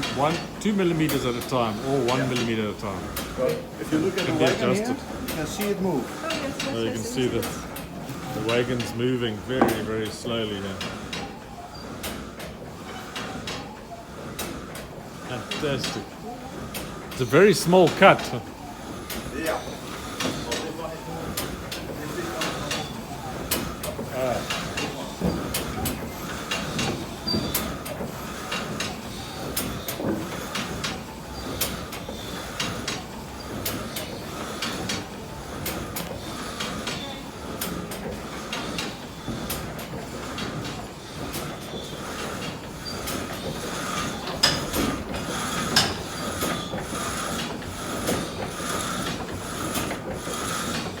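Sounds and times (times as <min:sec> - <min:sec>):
wooden sawmill machinery clicking: 0:00.0 - 0:51.0.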